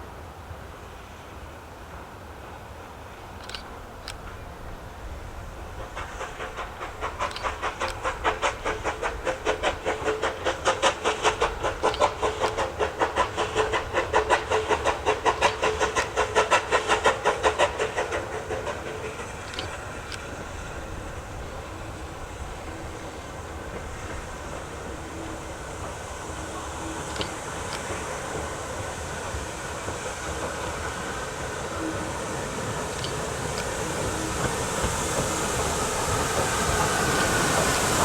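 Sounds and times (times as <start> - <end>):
steam locomotive exhaust beats: 0.0 - 38.0.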